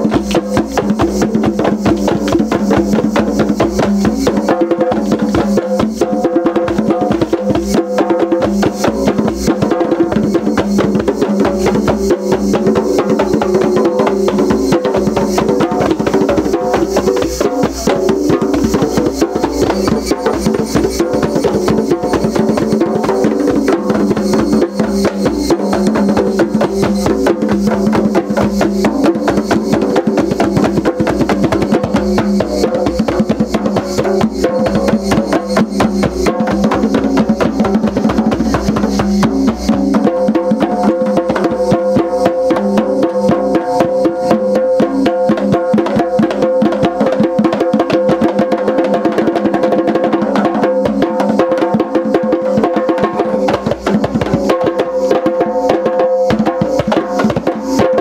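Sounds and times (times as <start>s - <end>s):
djembes played by hand: 0.0s - 58.0s
frame drum: 0.0s - 58.0s.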